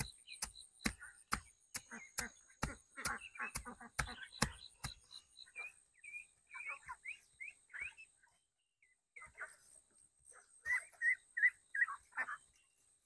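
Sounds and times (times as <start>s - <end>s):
ducks calling: 0.0s - 8.2s, 10.3s - 12.6s.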